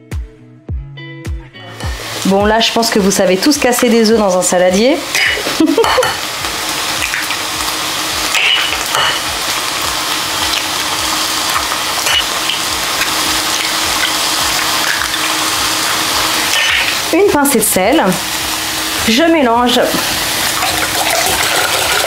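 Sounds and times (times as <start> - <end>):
mushrooms sizzling in pan: 1.8 - 22.0.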